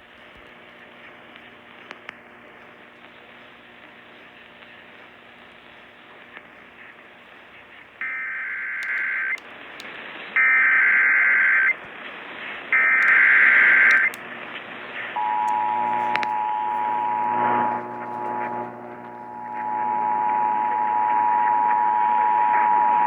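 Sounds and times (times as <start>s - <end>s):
faint radio hiss: 0.0s - 22.9s.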